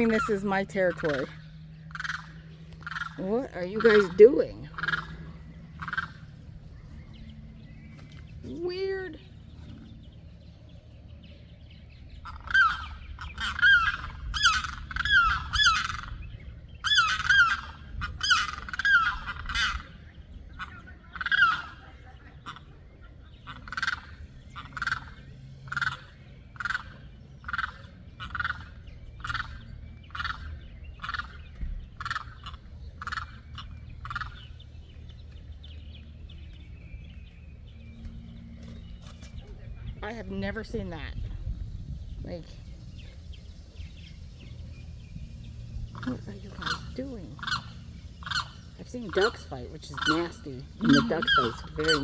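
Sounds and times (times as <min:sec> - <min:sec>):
birds screaming calls: 0:00.0 - 0:52.0.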